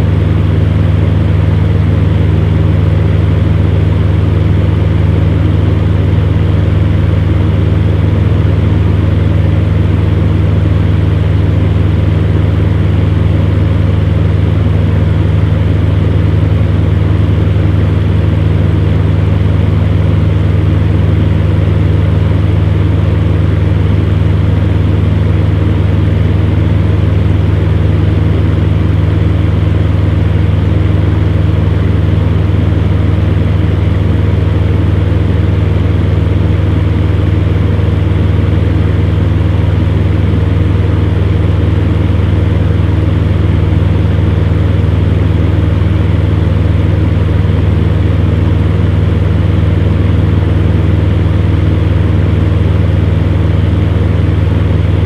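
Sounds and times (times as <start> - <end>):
fan heater humming: 0.0 - 55.0
whirr of moving air: 0.0 - 55.0.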